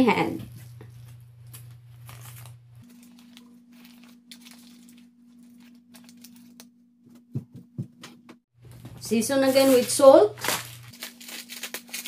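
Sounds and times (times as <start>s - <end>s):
parchment paper rustling: 0.5s - 7.3s, 8.7s - 12.0s.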